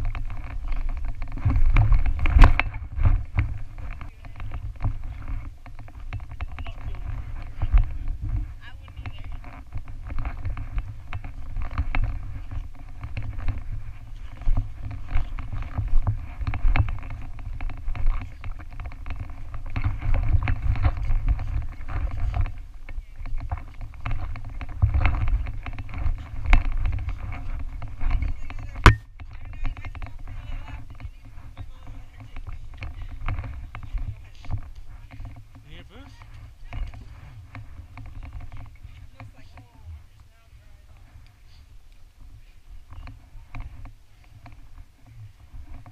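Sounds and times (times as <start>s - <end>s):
muffled rumbling and knocking: 0.0s - 40.1s.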